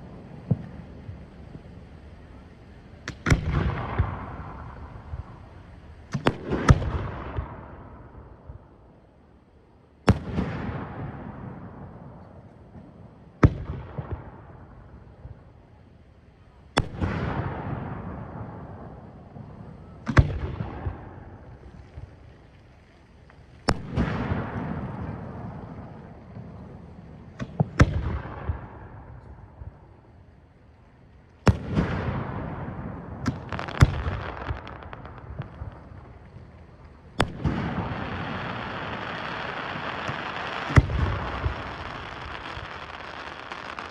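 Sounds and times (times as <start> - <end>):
fireworks bangs: 0.0 - 8.8, 16.7 - 43.9
fireworks crackling: 0.0 - 43.9.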